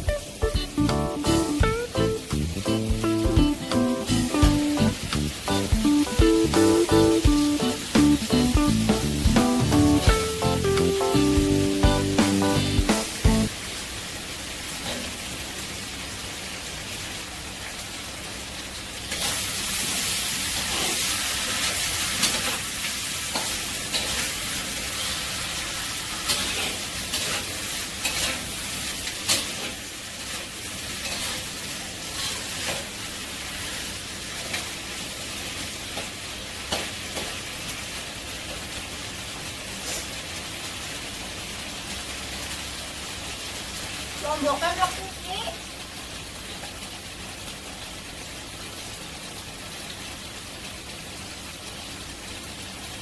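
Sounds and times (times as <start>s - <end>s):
food sizzling in a wok: 0.0s - 53.0s.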